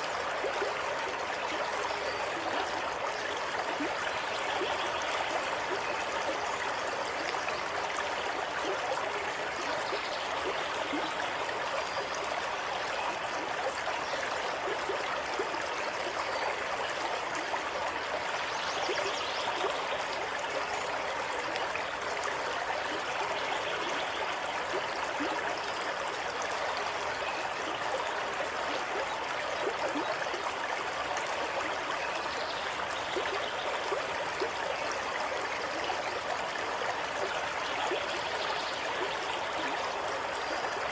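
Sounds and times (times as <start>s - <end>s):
water flowing and babbling: 0.0s - 40.9s.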